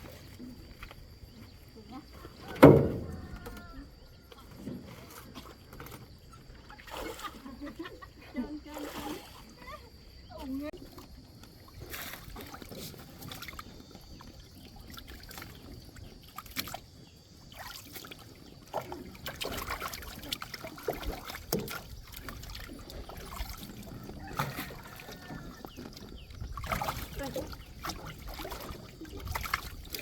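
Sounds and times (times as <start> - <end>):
water trickling and sloshing: 0.0 - 30.0.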